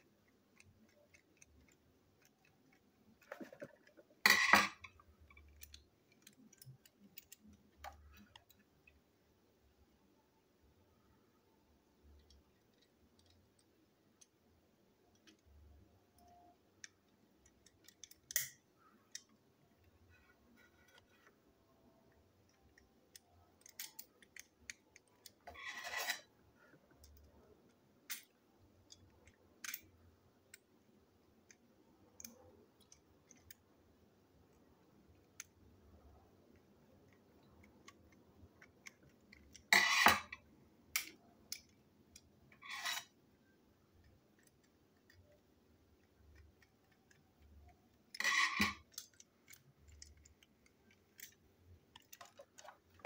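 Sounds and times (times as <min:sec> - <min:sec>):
plastic toy parts clicking: 0:00.1 - 0:09.0, 0:15.0 - 0:26.3, 0:27.0 - 0:30.7, 0:31.3 - 0:33.7, 0:34.4 - 0:43.2, 0:43.9 - 0:53.0.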